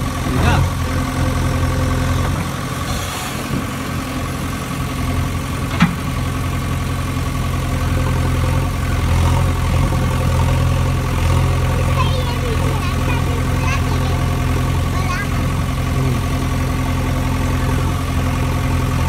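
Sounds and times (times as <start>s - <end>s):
low engine-like idling drone: 0.0s - 19.0s.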